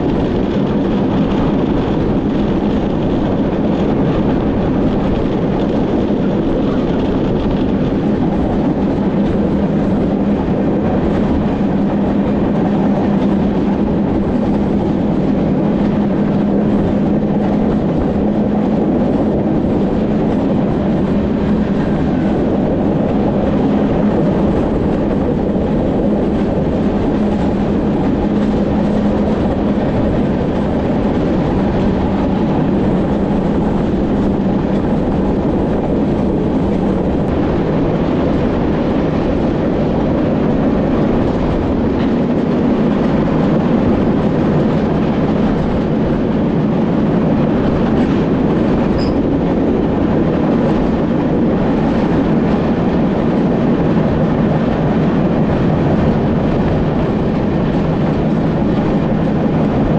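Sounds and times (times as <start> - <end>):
steady low hum: 0.0 - 59.9
train wheels rumbling on rail: 0.0 - 59.9.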